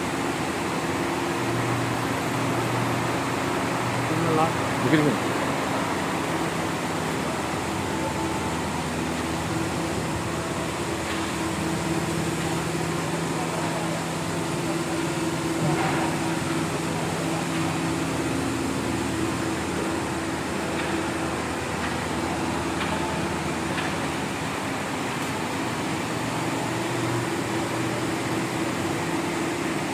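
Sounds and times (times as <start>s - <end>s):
machine hum with fan noise: 0.0s - 29.9s.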